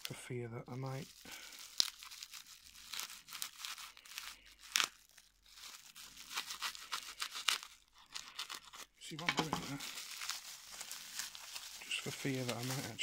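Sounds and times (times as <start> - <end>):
plastic wrapping rustling and tearing: 0.0 - 13.0.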